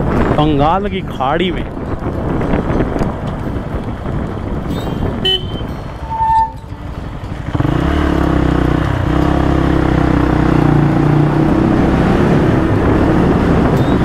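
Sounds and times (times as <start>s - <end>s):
motorcycle engine accelerating: 2.1s - 14.0s.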